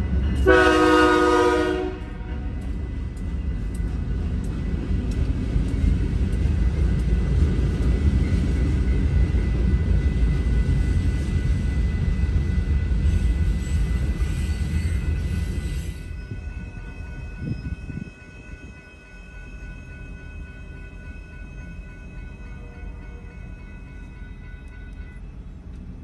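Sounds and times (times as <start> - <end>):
crossing warning bell: 0.0 - 26.0
diesel locomotives rumbling: 0.0 - 26.0
train cars rolling: 0.0 - 26.0.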